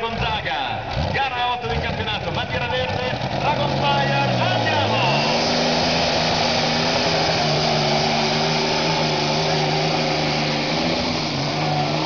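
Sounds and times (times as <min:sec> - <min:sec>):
tractor engine droning under load: 0:00.8 - 0:12.0.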